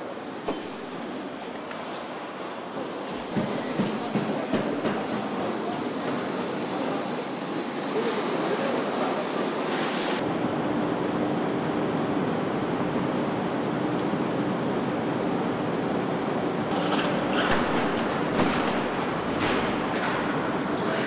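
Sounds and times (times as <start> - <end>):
factory noise: 0.0 - 21.0.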